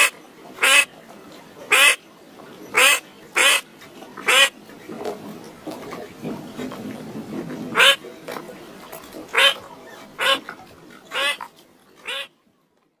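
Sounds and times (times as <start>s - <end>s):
faint background murmur: 0.0s - 13.0s.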